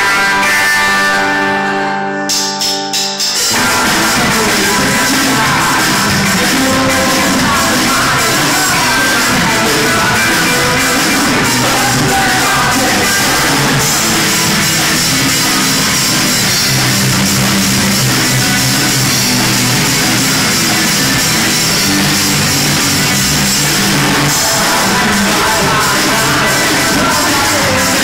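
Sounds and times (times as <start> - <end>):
electric guitars: 0.0 - 28.0
drum kit with crashing cymbals: 2.3 - 28.0.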